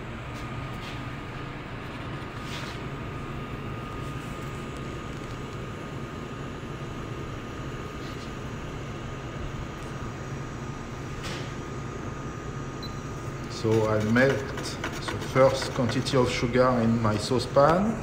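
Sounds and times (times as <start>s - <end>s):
cooling fan whirring with high whine: 0.0s - 18.0s.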